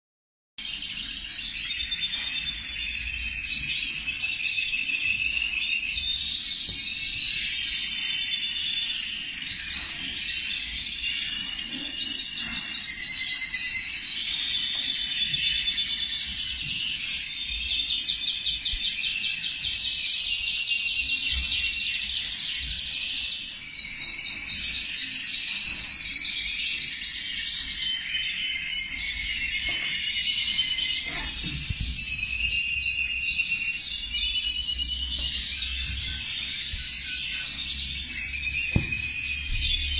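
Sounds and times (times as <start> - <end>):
canary singing with trills: 0.6 - 39.9.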